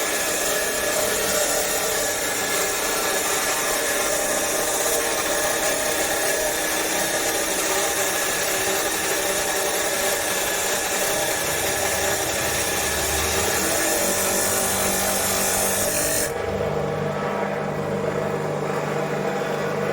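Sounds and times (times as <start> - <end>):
chop saw cutting metal: 0.0 - 16.6
saw motor hum: 0.0 - 19.9.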